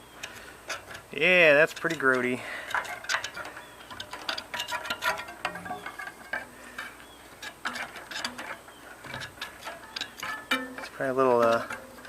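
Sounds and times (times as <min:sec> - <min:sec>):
clicks of hand work on hub: 0:00.0 - 0:12.0
grease scraping off metal: 0:00.0 - 0:12.0.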